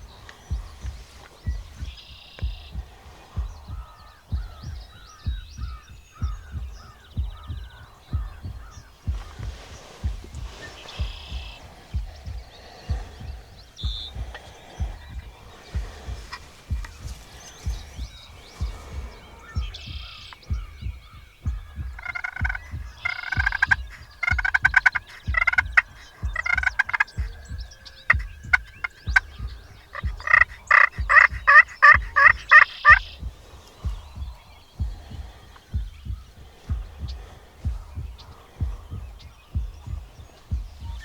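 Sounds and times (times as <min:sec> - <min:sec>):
low thumping: 0:00.0 - 0:41.0
turkey gobbling and yelping: 0:00.2 - 0:41.0.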